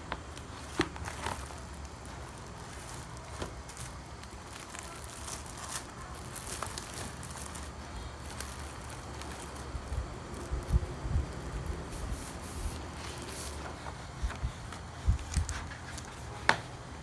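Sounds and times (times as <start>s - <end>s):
paper rustling and crinkling: 0.0s - 17.0s.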